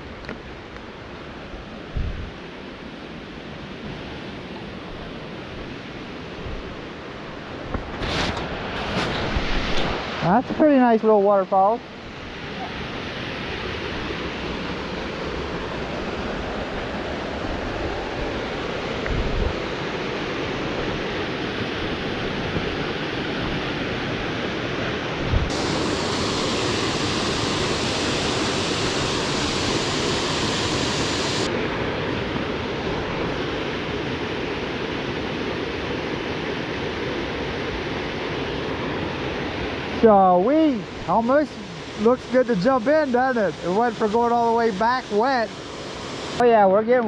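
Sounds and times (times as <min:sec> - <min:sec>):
waterfall rushing: 0:08.3 - 0:46.7.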